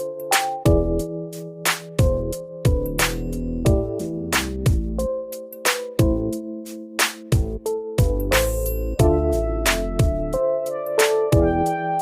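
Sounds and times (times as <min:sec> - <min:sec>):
keyboard chords over drum beat: 0:00.0 - 0:12.0.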